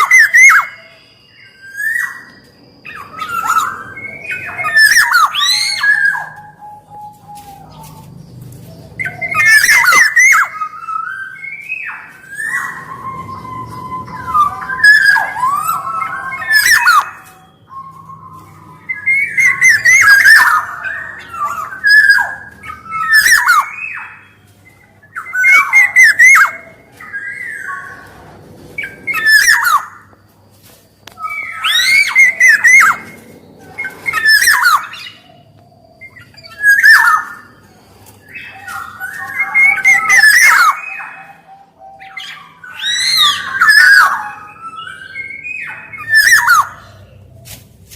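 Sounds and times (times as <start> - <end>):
oriole fluting whistles: 0.0 - 47.4.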